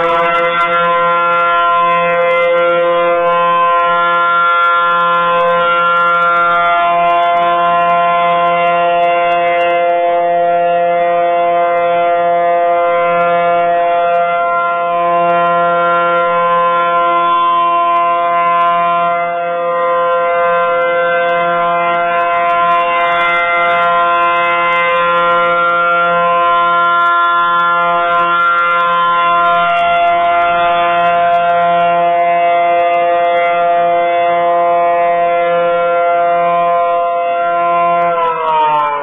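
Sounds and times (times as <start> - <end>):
warning siren with steady pitch: 0.0 - 39.0.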